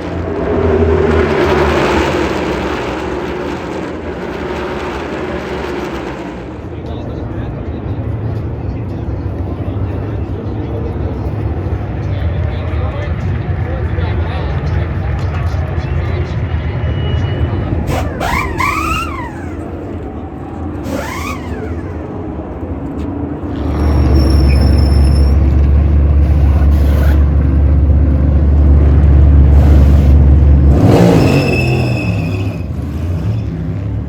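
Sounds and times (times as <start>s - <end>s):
race car engines passing: 0.0s - 34.0s.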